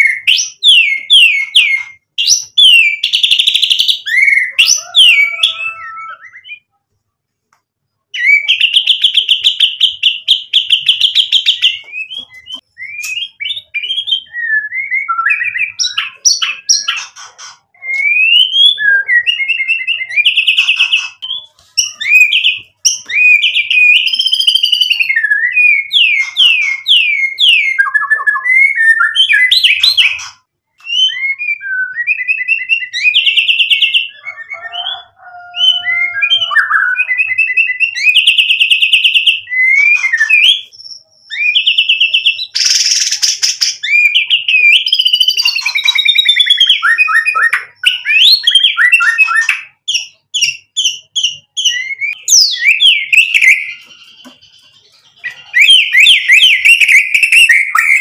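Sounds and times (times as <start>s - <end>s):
songbird singing: 0.0s - 6.9s, 7.5s - 58.0s.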